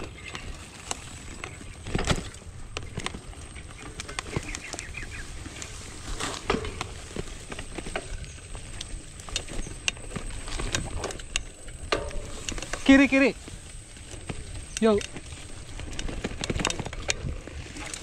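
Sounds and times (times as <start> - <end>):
bike rattling over dirt track: 0.0 - 18.0
tyres rolling on dirt: 0.0 - 18.0.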